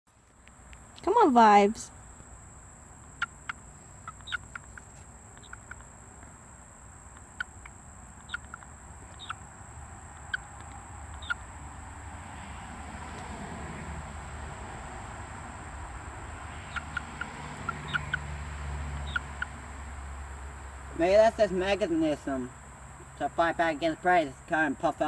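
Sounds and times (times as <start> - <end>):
frog chirping: 0.8 - 12.6, 14.1 - 23.9.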